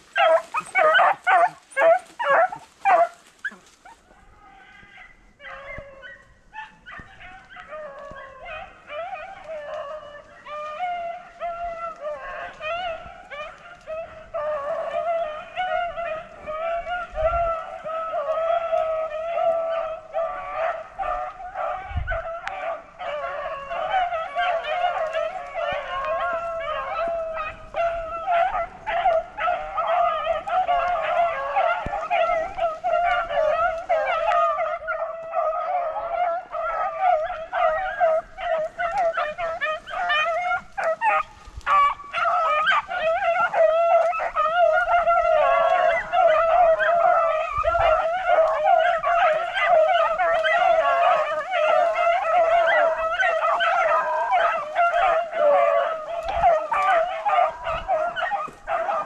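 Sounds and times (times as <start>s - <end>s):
beagles baying: 0.0s - 59.0s.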